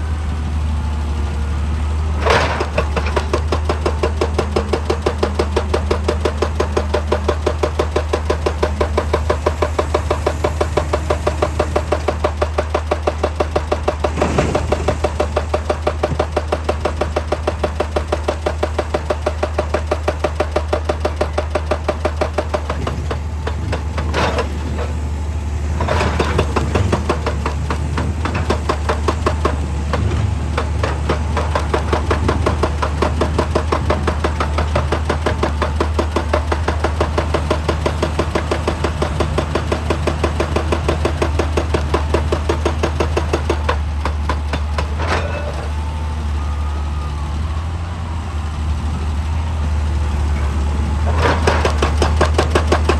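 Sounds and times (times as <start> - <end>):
diesel engine drone: 0.0 - 52.9
hydraulic breaker hammering rock: 2.1 - 45.8, 50.3 - 52.9.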